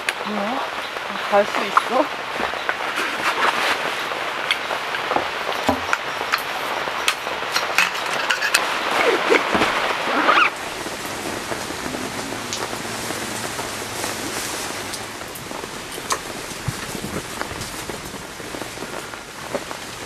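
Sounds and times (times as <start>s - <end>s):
sharp taps of raindrops: 0.0s - 8.8s, 12.4s - 20.0s
heavy rain falling: 0.0s - 20.0s.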